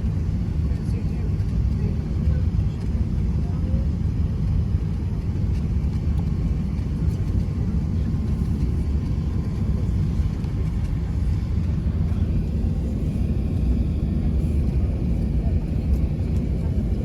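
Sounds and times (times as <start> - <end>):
airliner landing rumble: 0.0 - 17.0.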